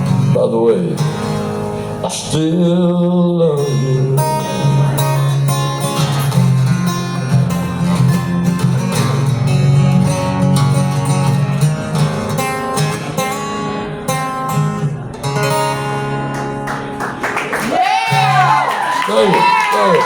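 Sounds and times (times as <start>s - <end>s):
acoustic guitar strumming: 0.0s - 17.3s, 18.1s - 18.6s.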